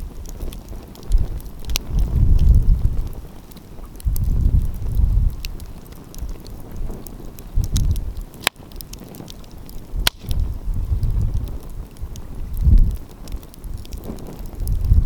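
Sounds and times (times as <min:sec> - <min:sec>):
wind buffeting microphone: 0:00.0 - 0:15.0
wood fire crackling: 0:00.0 - 0:15.0.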